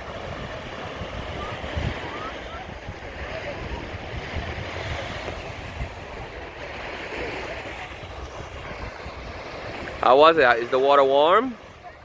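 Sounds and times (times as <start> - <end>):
ocean surf washing on beach: 0.0 - 12.0
wind buffeting microphone: 0.0 - 12.0.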